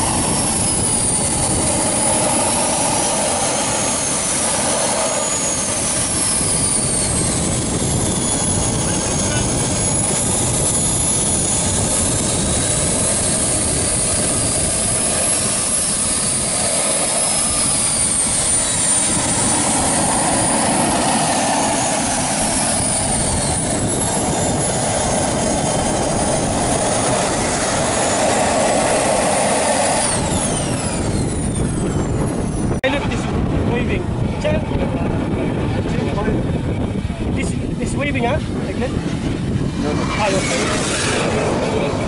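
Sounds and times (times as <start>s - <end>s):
model jet turbine engine running: 0.0s - 42.0s.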